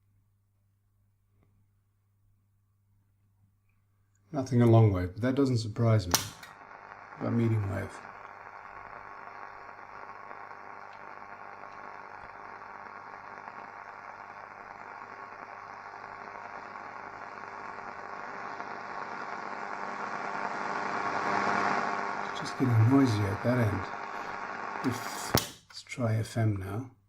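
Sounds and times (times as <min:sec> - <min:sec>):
radio static hiss: 0:04.4 - 0:26.8.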